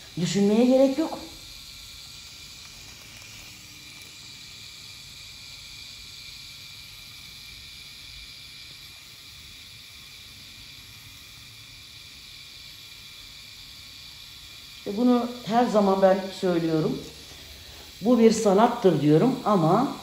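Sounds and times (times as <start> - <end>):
makeup machine pen whining hiss: 0.0 - 20.0.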